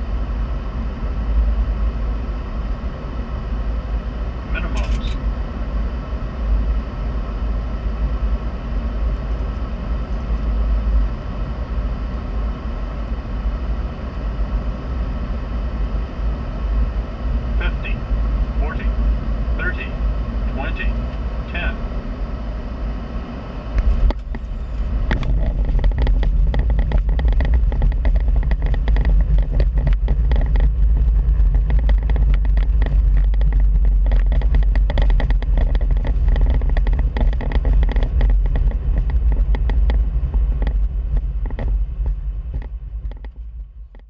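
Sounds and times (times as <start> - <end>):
engines and wheels rumbling: 0.0 - 44.0.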